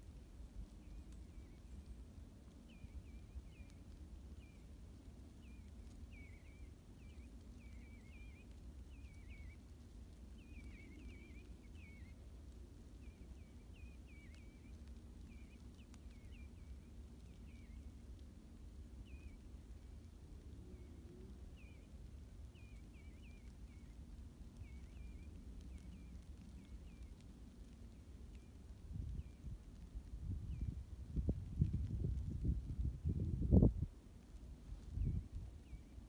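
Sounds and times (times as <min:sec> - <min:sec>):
low steady rumble: 0:00.0 - 0:36.0
faint bird chirps: 0:00.6 - 0:18.2, 0:18.8 - 0:33.8, 0:34.7 - 0:36.0.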